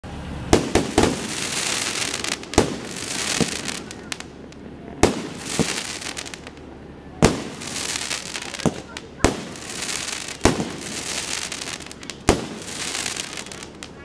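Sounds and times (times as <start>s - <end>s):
fireworks bangs: 0.4s - 14.0s
hissing crackle: 0.6s - 14.0s.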